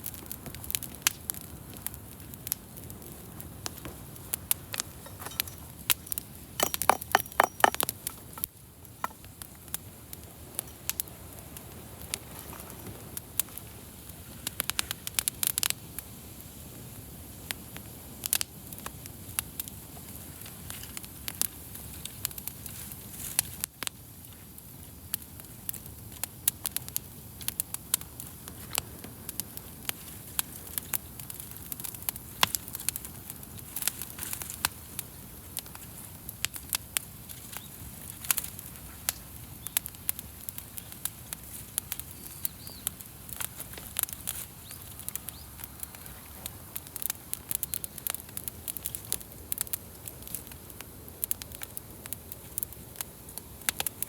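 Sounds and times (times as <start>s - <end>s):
campfire crackling and popping: 0.0s - 54.0s
low hiss of burning fire: 0.0s - 54.0s.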